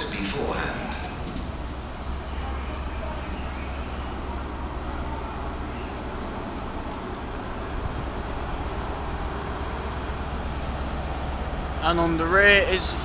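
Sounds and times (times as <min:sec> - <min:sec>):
diesel train engines droning: 0:00.0 - 0:13.0.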